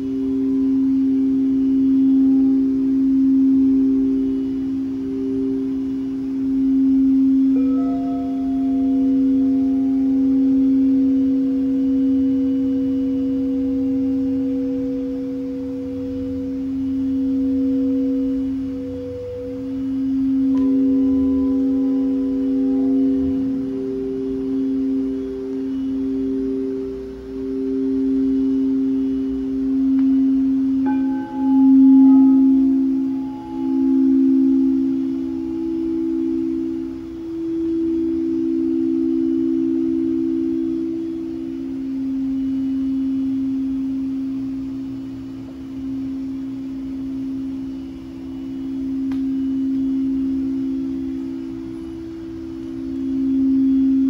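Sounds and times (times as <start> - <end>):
bowl struck: 0.0 - 54.0
singing bowls ringing: 0.0 - 54.0.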